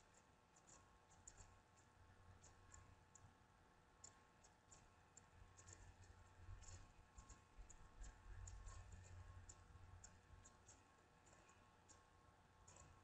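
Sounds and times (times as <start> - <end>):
faint high-pitched clicks: 0.0 - 13.0.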